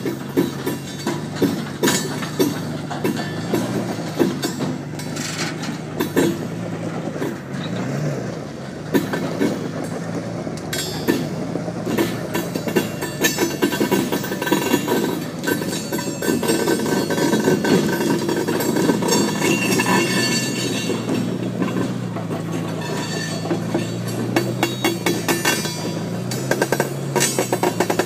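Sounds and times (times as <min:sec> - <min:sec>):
engine droning under load: 0:00.0 - 0:28.0
railroad car rolling on rails: 0:00.0 - 0:28.0
wheels and couplings clanking: 0:00.0 - 0:28.0.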